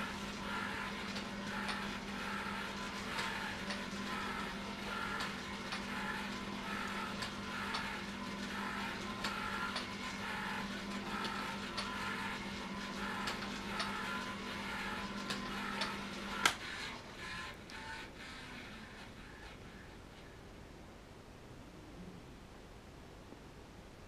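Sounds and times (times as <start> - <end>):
rotating mechanism ticking and whirring: 0.0 - 20.4
low electrical hum: 0.0 - 24.0.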